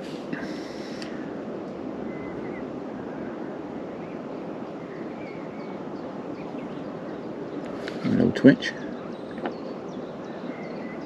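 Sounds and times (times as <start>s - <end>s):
low outdoor background rumble: 0.0s - 11.0s
faint bird chirps: 0.3s - 1.2s, 2.0s - 11.0s.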